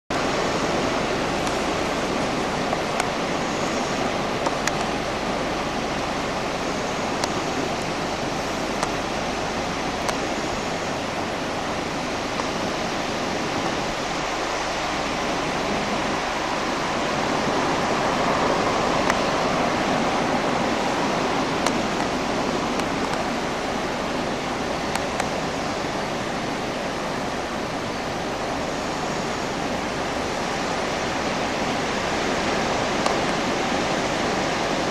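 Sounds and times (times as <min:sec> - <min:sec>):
sea surf washing: 0:00.1 - 0:34.9.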